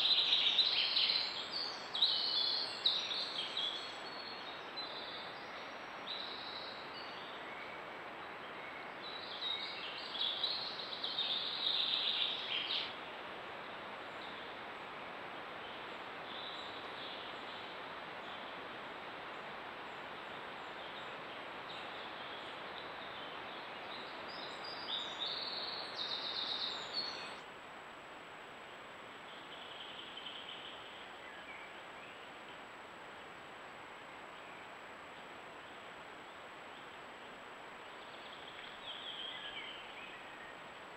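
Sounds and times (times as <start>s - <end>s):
songbirds singing: 0.0s - 27.5s, 28.6s - 40.9s
steady background hiss: 0.0s - 40.9s.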